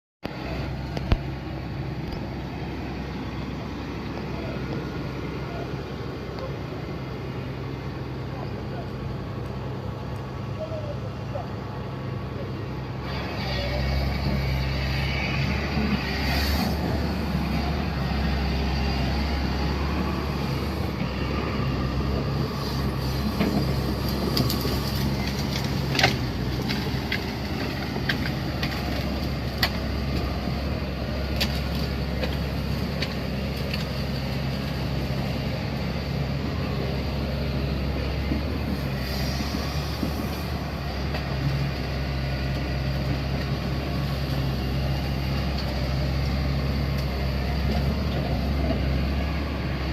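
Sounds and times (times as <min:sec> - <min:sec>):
heavy machine engine running: 0:00.2 - 0:49.9.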